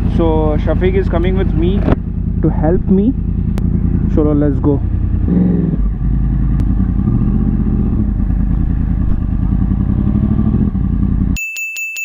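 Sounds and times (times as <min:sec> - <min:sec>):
motorcycle engine pulling away: 0:00.0 - 0:11.4.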